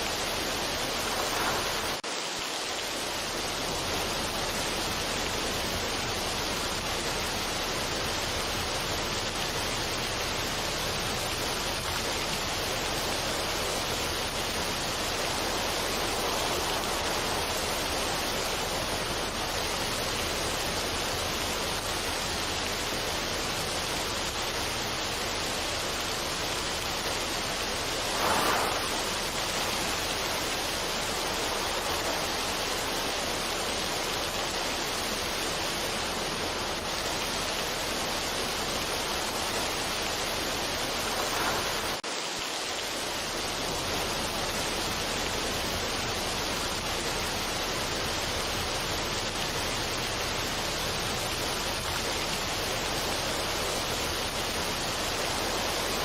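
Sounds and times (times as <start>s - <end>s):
steady rushing noise: 0.0s - 47.6s.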